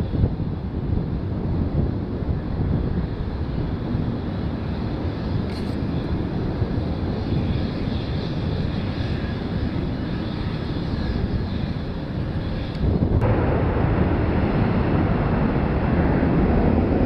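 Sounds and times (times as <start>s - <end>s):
airplane engines droning: 0.0s - 17.0s
wind rumble on microphone: 0.0s - 17.0s.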